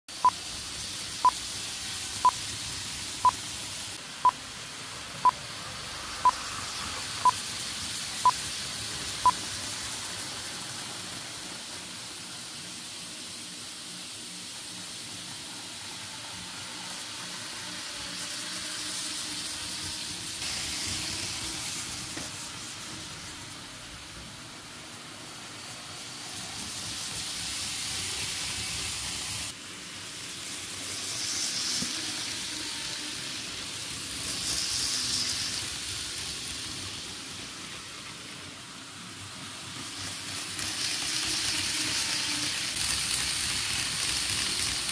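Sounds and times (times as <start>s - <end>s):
model trains hiss and whir: 0.1s - 44.9s.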